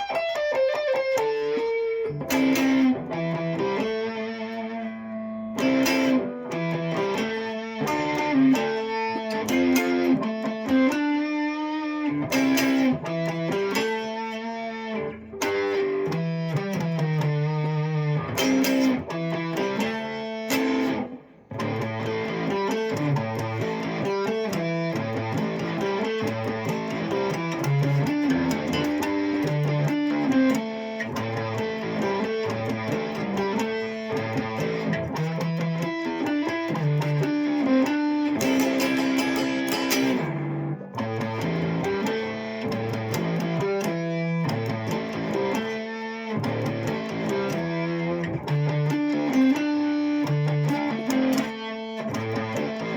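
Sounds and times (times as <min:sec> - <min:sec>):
plucked guitar music: 0:00.0 - 0:52.9.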